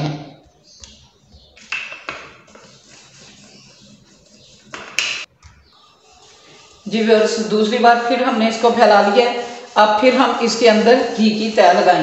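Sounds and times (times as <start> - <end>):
rolling pin rolling dough: 0.4 - 12.0.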